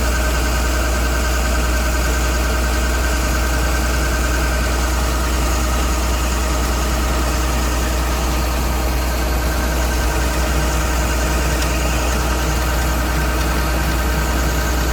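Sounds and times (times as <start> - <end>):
harvester engine running: 0.0 - 14.9.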